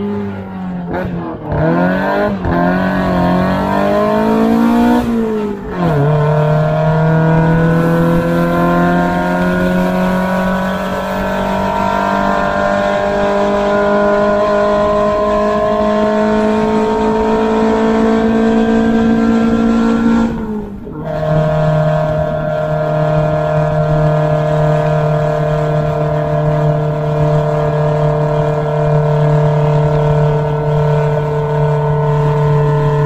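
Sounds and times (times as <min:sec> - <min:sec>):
racing car engine revving: 0:00.0 - 0:33.0.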